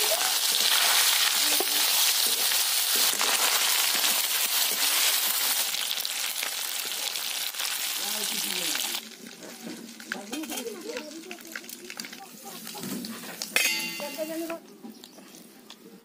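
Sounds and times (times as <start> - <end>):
fish sizzling in hot oil: 0.0 - 14.5
oil crackling and popping: 0.0 - 15.8.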